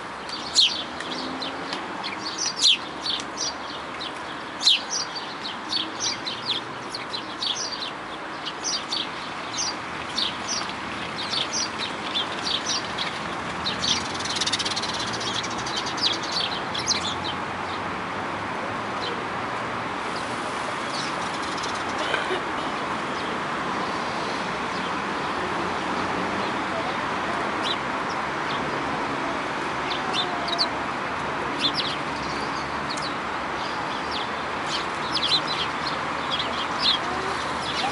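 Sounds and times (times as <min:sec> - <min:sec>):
birds chirping: 0:00.2 - 0:17.9, 0:20.2 - 0:28.9, 0:29.8 - 0:30.8, 0:31.5 - 0:37.9.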